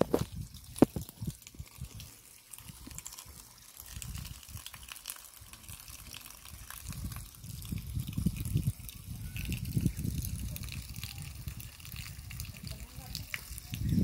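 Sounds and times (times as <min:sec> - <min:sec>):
water pouring and splashing: 0:00.0 - 0:14.0.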